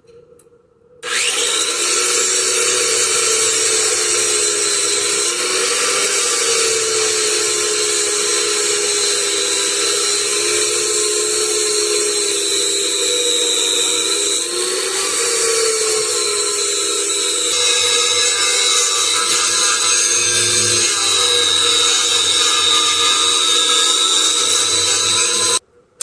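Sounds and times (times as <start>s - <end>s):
power tool motor whining: 1.0s - 25.6s.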